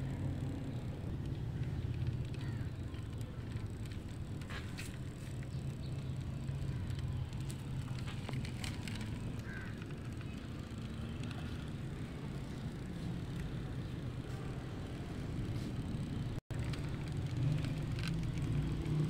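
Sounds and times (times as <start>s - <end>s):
toy wheels rolling on concrete: 0.1s - 19.0s.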